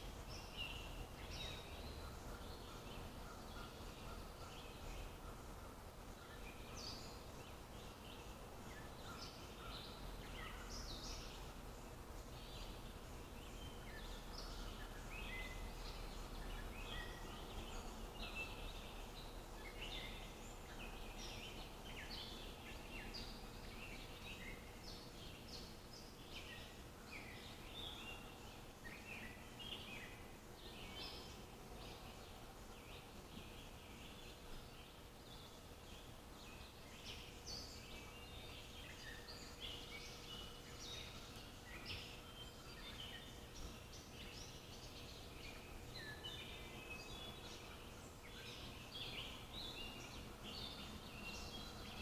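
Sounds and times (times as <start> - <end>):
wild birds chirping and calling: 0.0 - 52.0.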